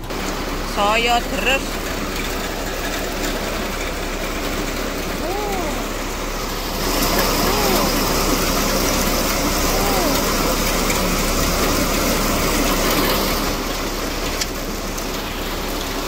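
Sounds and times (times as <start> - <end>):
heavy rain on metal roofs: 0.0 - 16.0.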